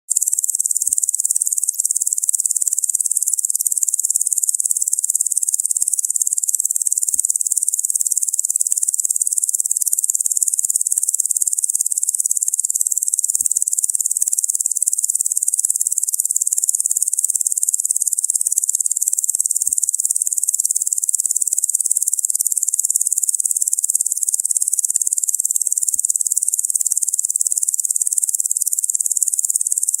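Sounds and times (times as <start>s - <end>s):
faint ticks: 0.1s - 30.0s.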